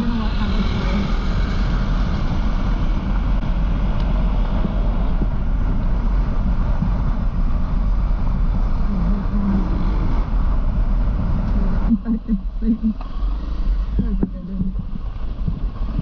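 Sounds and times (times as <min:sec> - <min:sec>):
dense rushing noise: 0:00.0 - 0:16.0
motorcycle running: 0:00.0 - 0:16.0.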